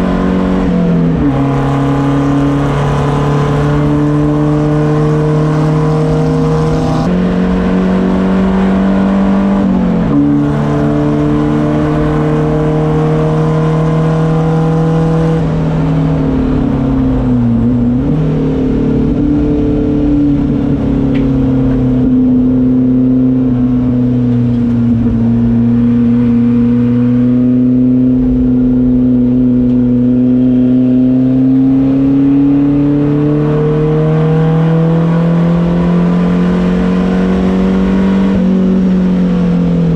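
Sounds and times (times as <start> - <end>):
race car engine from inside cabin: 0.0 - 39.9.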